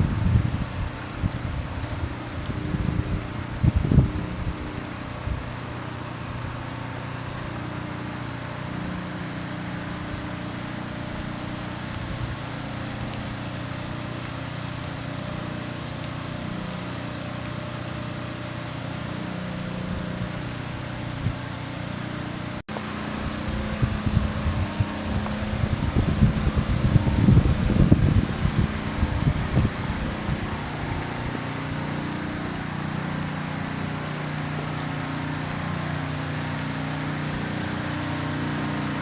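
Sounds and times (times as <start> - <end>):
rain hissing: 0.0 - 39.0.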